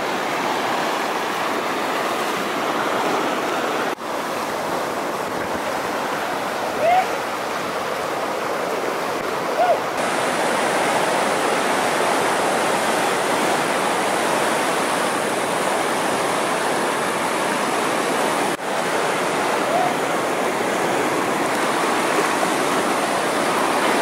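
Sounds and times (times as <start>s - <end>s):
whitewater rapids rushing: 0.0s - 24.0s.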